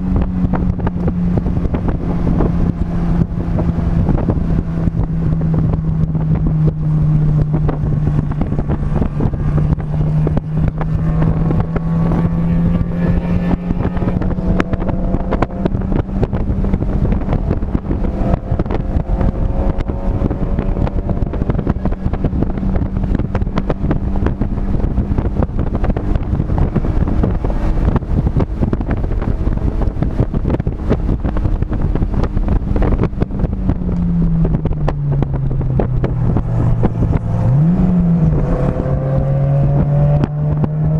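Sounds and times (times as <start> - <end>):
car engine at high revs: 0.0 - 40.9
wind on microphone: 0.0 - 40.9.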